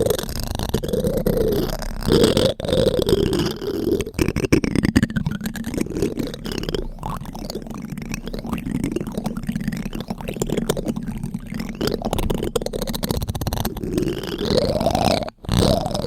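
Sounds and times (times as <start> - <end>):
spoon scraping microphone: 0.0 - 16.0.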